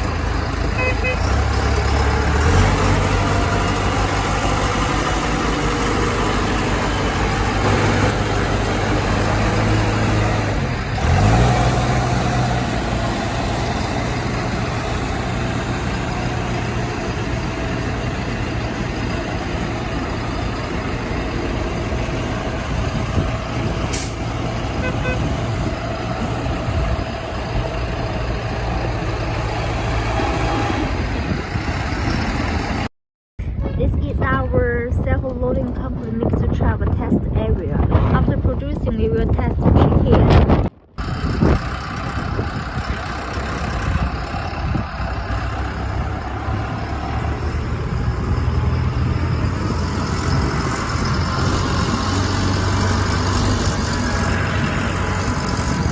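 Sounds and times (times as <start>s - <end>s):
diesel truck engine running: 0.0s - 32.9s, 33.9s - 55.9s.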